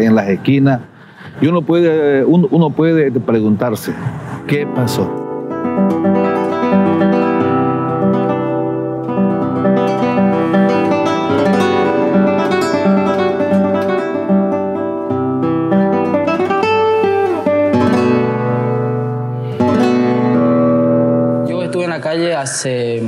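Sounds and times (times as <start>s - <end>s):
acoustic guitar playing: 4.2s - 23.0s.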